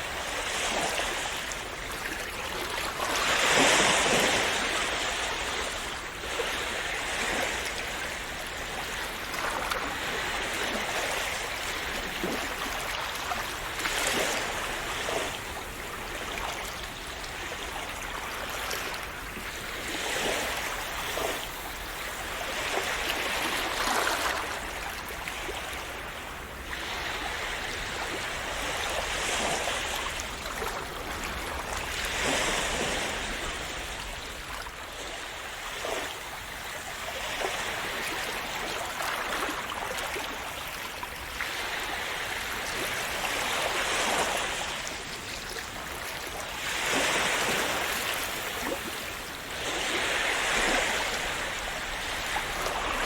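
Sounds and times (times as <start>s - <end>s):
sea waves splashing: 0.0s - 53.0s.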